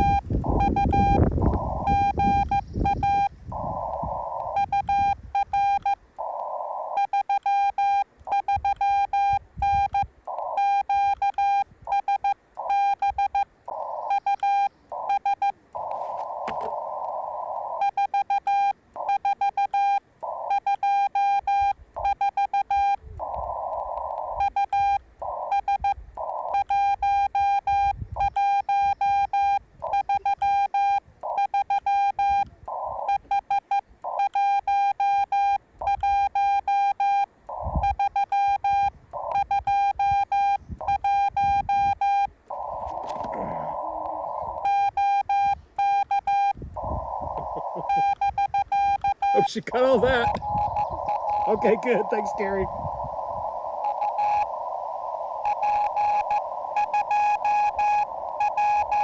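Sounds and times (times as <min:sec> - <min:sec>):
radio receiver hiss: 0:00.0 - 0:07.4, 0:08.1 - 0:20.8, 0:21.4 - 0:27.4, 0:28.2 - 0:34.8, 0:37.0 - 0:59.0
morse code tone: 0:00.0 - 0:54.6, 0:55.4 - 0:59.0.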